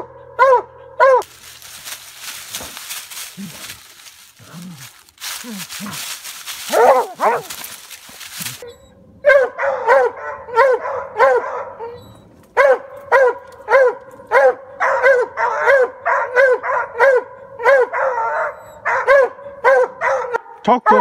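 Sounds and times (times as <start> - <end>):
hounds barking: 0.0 - 21.0.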